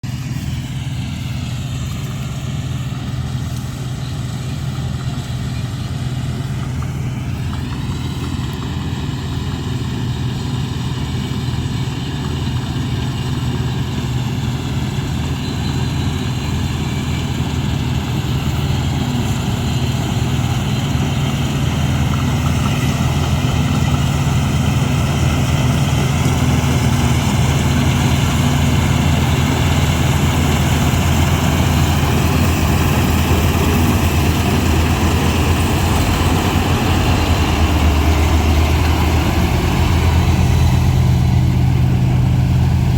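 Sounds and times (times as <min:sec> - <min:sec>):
harvester engine running: 0:00.0 - 0:42.9.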